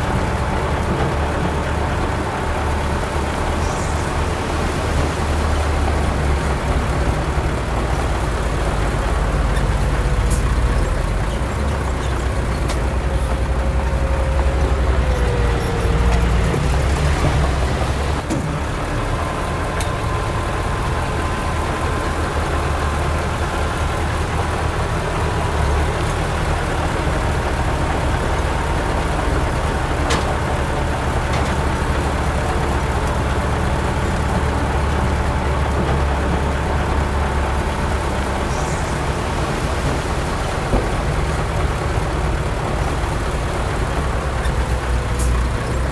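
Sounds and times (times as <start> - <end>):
diesel machinery engine rumble: 0.0 - 45.9.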